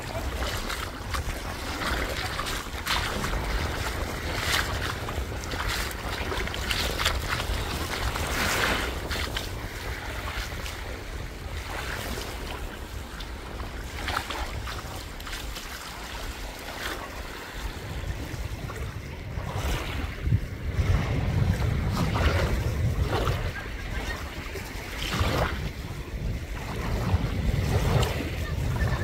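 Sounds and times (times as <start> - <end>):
sea waves washing on shore: 0.0 - 29.0
wind buffeting microphone: 0.0 - 29.0.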